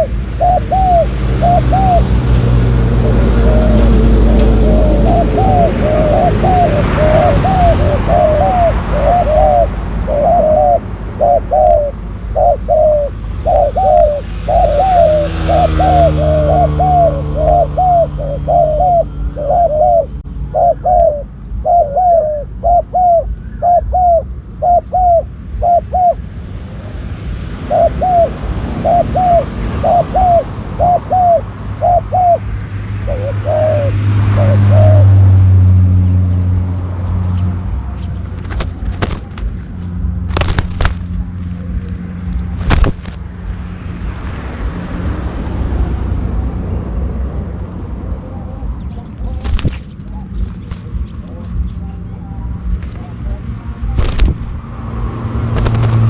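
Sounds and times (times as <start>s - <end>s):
doves cooing: 0.0s - 26.2s, 27.7s - 35.2s, 38.0s - 43.3s, 47.8s - 56.0s.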